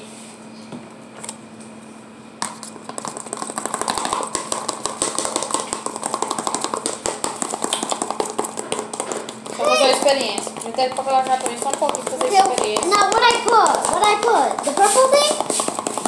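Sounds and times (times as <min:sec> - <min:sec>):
spoon stirring in plastic bowl: 0:02.4 - 0:16.0.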